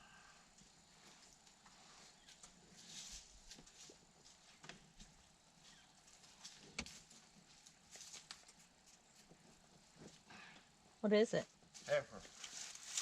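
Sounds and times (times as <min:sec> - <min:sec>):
faint clicks and rustles: 0:00.5 - 0:13.0.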